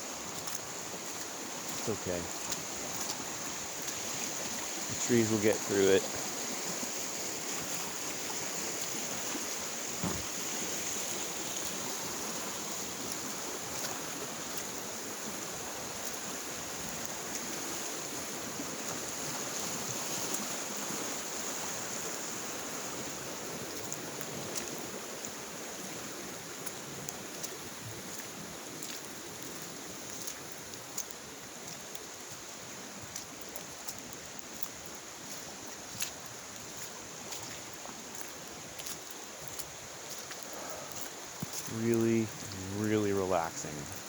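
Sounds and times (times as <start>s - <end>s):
creek water flowing: 0.0s - 44.0s.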